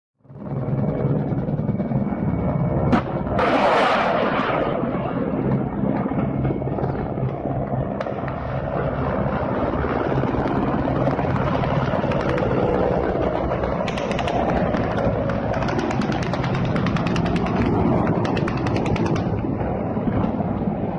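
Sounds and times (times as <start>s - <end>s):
helicopters flying overhead: 0.2s - 20.9s.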